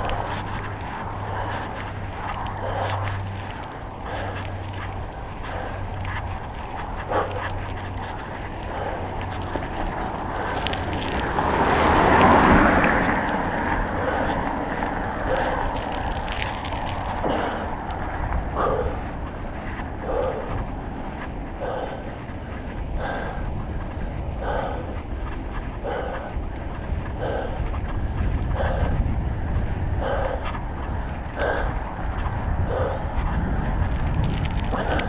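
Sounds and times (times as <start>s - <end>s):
bicycle tyre noise on wet road: 0.0s - 35.0s
bike clicks and rattles: 0.0s - 35.0s
wind rushing over microphone: 0.0s - 35.0s.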